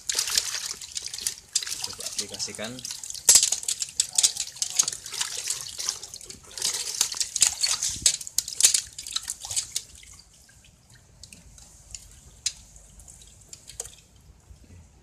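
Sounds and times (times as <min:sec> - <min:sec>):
wriggling fish slapping: 0:00.0 - 0:14.2
water splashing and dripping: 0:00.0 - 0:14.7.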